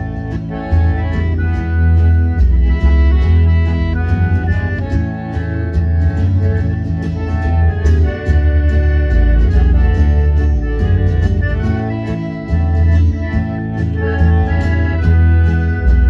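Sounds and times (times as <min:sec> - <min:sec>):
accordion playing country tune: 0:00.0 - 0:16.0
acoustic guitar: 0:00.0 - 0:16.0.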